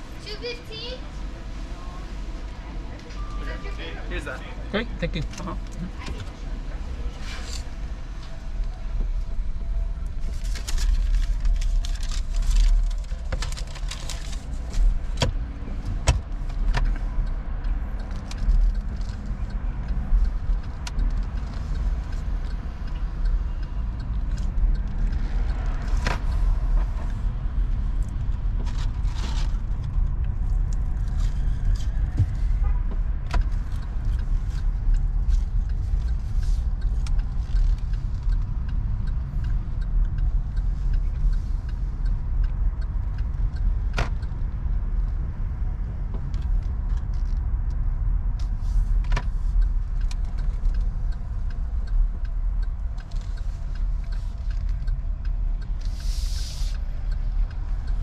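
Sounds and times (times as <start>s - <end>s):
car cabin road rumble: 0.0s - 58.0s
small clicks and rustles: 10.0s - 32.6s, 33.2s - 45.2s, 46.0s - 58.0s.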